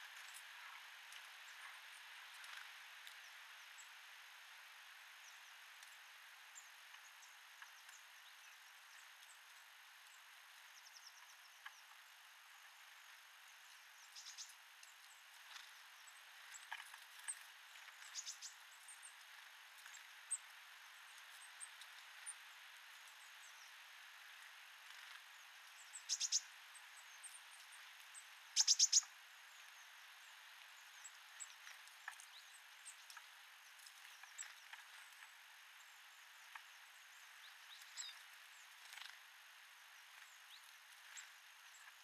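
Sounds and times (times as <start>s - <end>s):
steady background hiss: 0.0s - 42.0s
small birds chirping: 5.1s - 42.0s.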